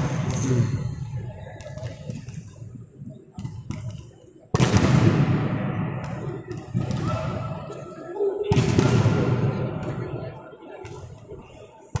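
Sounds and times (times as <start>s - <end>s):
low crowd murmur: 0.0s - 12.0s.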